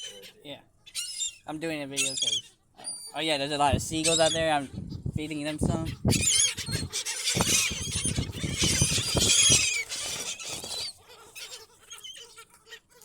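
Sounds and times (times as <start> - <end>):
seagulls crying: 0.0 - 3.3, 3.9 - 4.6, 5.5 - 13.0.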